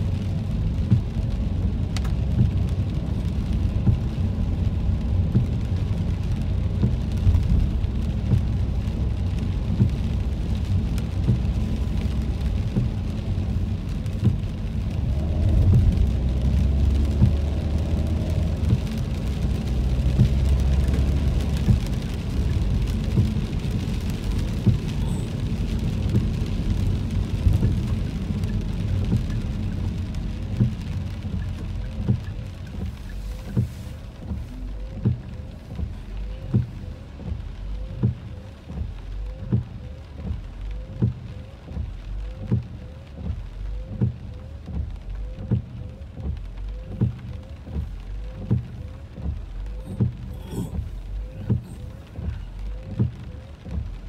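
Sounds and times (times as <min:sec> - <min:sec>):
car road rumble: 0:00.0 - 0:54.0
rain on car roof: 0:00.0 - 0:54.0
windshield wipers sweeping: 0:00.0 - 0:54.0.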